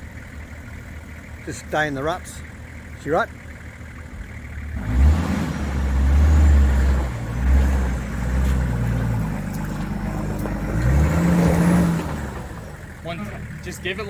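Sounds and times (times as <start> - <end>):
four-wheel drive engine revving: 0.0 - 14.0.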